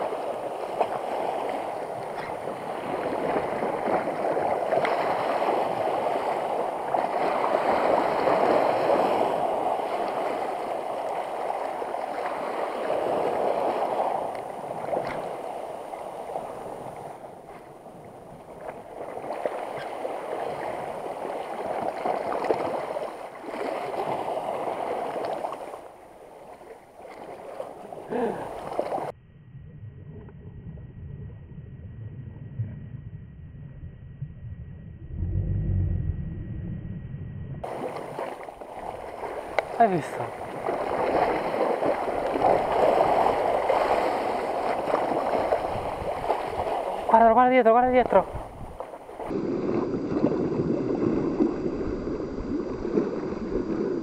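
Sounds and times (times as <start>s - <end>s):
sea water washing over rocks: 0.0s - 29.1s, 37.6s - 54.0s.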